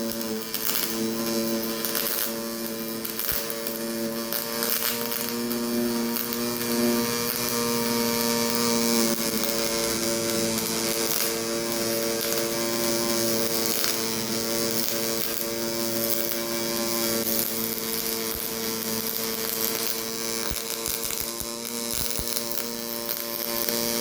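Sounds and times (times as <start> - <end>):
welding arc buzzing and crackling: 0.0 - 24.0.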